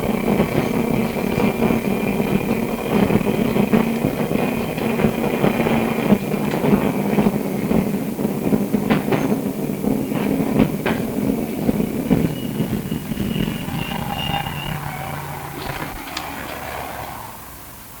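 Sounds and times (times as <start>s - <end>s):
track rumble: 0.0s - 18.0s
tram traction hum: 0.0s - 18.0s
wheels clacking: 0.0s - 18.0s.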